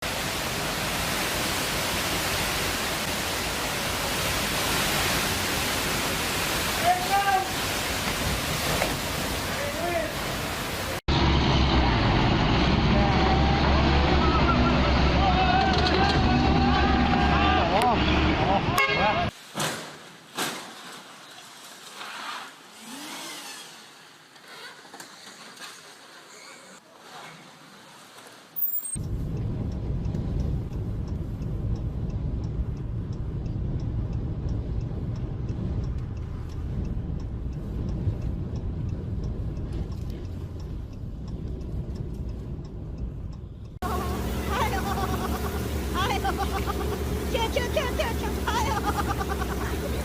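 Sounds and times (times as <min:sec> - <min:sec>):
vehicle engine and road noise: 0:07.6 - 0:19.4, 0:20.7 - 0:50.0.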